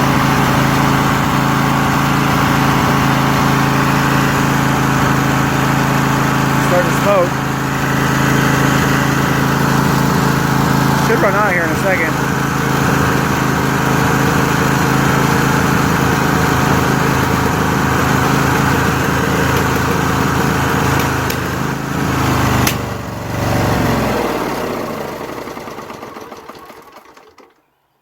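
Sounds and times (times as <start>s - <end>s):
lawn tractor engine running: 0.0s - 27.8s.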